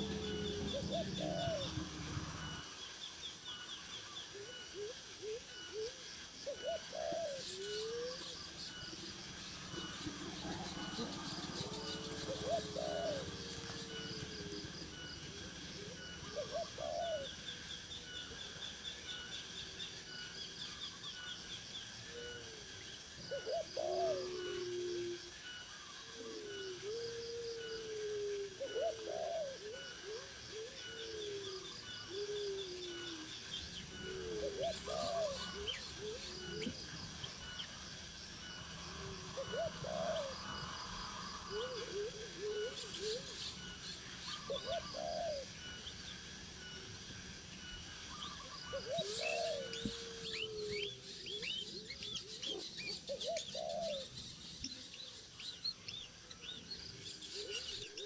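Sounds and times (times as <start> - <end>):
low cooing bird call: 0.0 - 2.8, 3.4 - 19.3, 20.0 - 47.0, 47.6 - 58.0.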